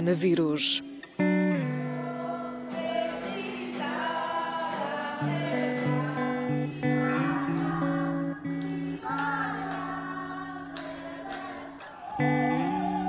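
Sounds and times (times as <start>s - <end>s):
acoustic guitar: 0.0s - 13.0s
group singing: 1.5s - 13.0s.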